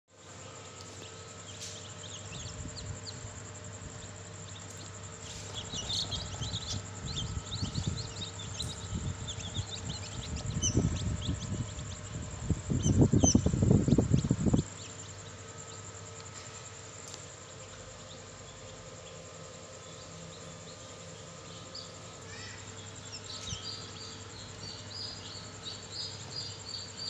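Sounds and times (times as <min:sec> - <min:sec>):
faint steady hum: 0:00.1 - 0:27.0
chicks peeping: 0:00.4 - 0:27.0.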